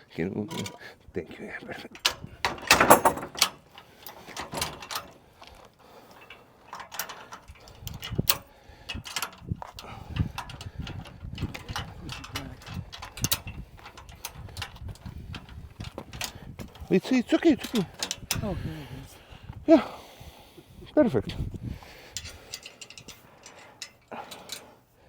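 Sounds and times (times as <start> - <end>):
trailer hitch clicking and clunking: 0.4 - 1.0, 1.9 - 19.0, 20.1 - 24.8.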